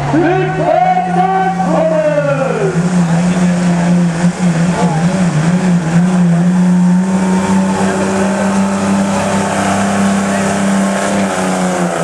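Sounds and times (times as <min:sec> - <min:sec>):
diesel truck engine at high revs: 0:00.0 - 0:12.0.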